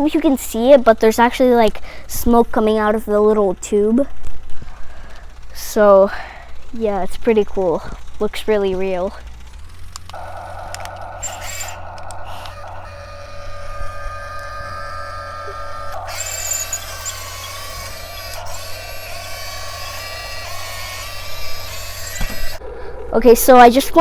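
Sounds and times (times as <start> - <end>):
electric motors whining: 4.1 - 24.0.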